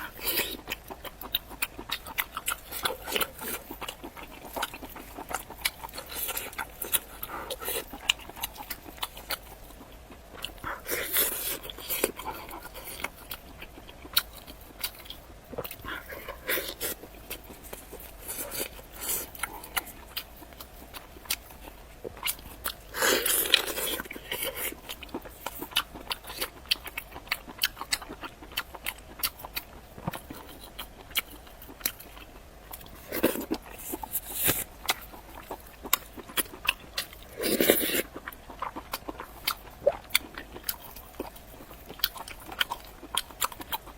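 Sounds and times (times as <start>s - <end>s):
person biting and chewing: 0.0s - 43.9s.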